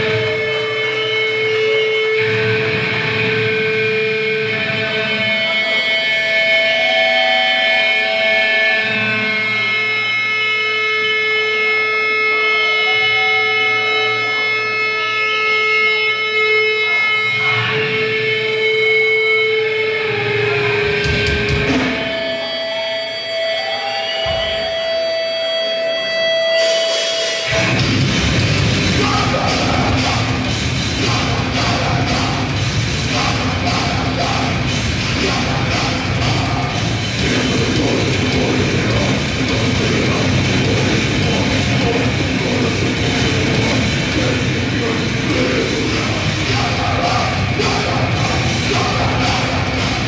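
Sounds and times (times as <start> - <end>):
grindcore band playing live: 0.0 - 50.0
guitar feedback tones: 0.0 - 50.0.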